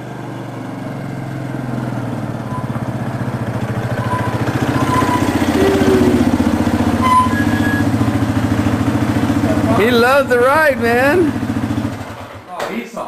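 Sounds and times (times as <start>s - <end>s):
small vehicle engine running: 0.0s - 12.5s.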